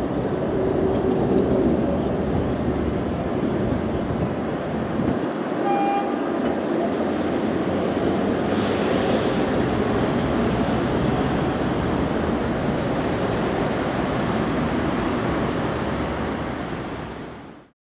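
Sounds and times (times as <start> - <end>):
tram rumbling by: 0.0 - 17.7.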